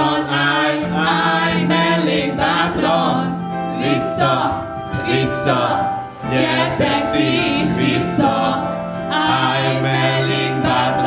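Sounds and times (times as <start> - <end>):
group singing into microphones: 0.0 - 11.0
song over backing track: 0.0 - 11.0.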